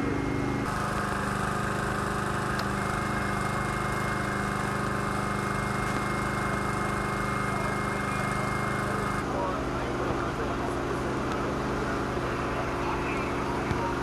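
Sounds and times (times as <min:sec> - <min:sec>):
fire engine motor running: 0:00.0 - 0:14.0.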